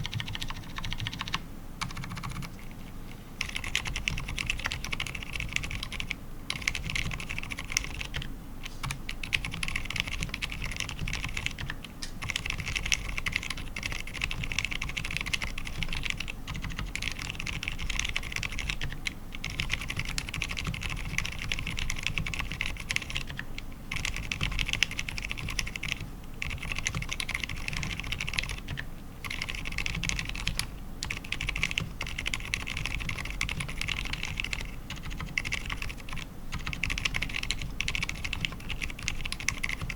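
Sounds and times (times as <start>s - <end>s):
typing on mechanical keyboard: 0.0s - 2.5s, 3.4s - 39.9s.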